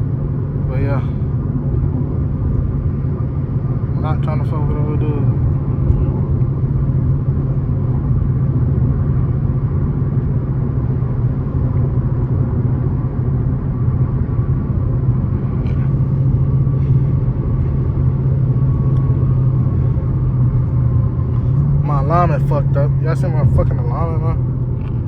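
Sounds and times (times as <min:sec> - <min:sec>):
car engine and road noise droning: 0:00.0 - 0:25.0.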